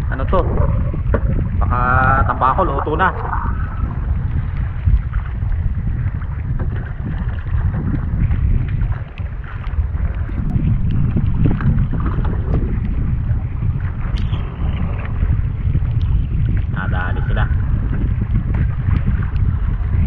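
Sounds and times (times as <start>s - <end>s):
water sloshing against hull: 0.0s - 20.0s
wind buffeting microphone: 0.0s - 20.0s.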